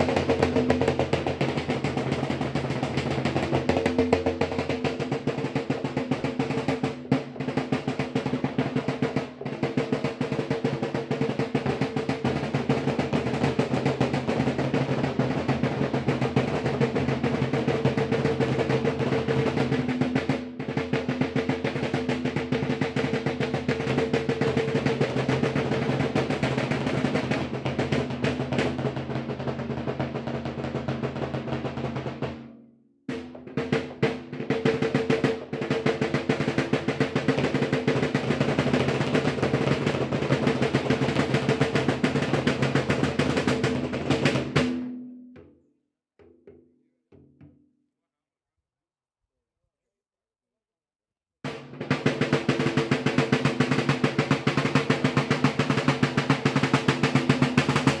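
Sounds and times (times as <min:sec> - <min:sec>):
drums beaten with canes: 0:00.0 - 0:47.6, 0:51.4 - 0:58.0.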